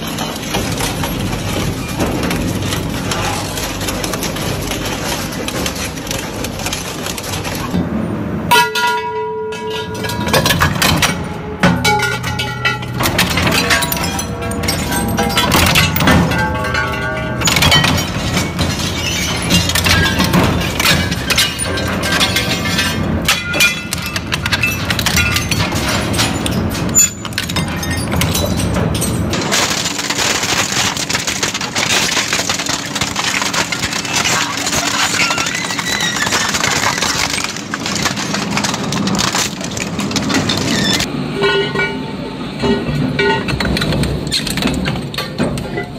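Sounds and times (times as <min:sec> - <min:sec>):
metal shredder crushing scrap: 0:00.0 - 0:45.9.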